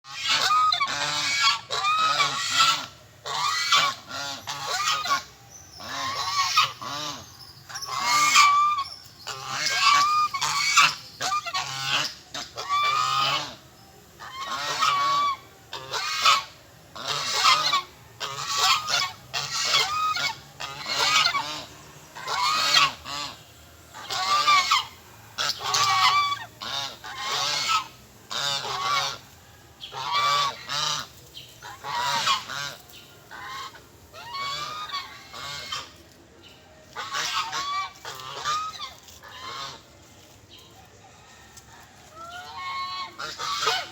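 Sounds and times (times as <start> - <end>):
birds honking raucously: 0.0 - 40.2, 42.2 - 43.9.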